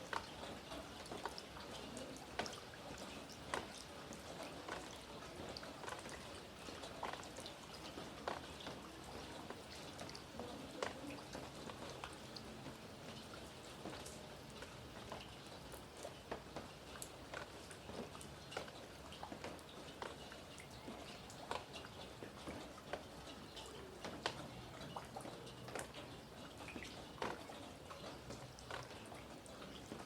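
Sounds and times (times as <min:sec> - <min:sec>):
raindrops hitting hard surface: 0:00.0 - 0:30.0.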